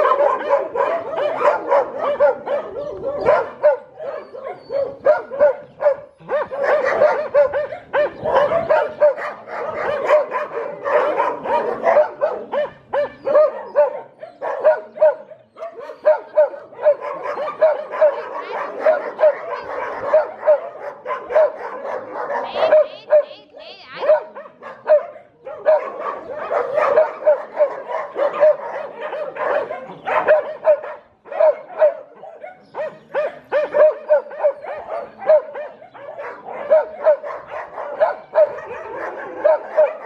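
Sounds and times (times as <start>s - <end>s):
dogs barking: 0.0s - 40.0s.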